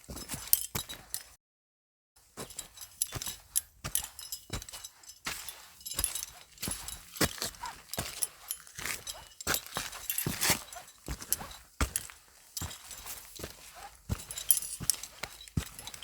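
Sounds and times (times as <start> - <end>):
footsteps walking: 2.4 - 16.0.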